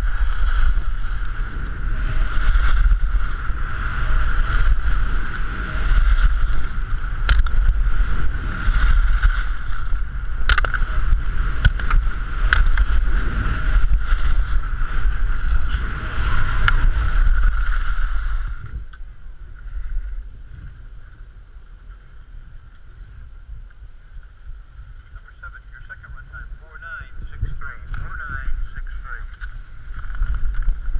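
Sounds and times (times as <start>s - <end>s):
skis carving on snow: 0.0s - 23.4s, 27.4s - 30.9s
wind rushing over microphone: 0.0s - 30.9s.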